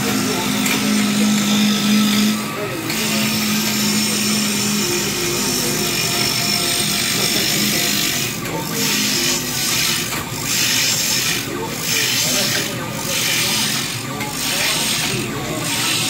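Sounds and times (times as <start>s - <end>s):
cutting tool shaving wood: 0.0s - 16.0s
lathe spindle spinning: 0.0s - 16.0s.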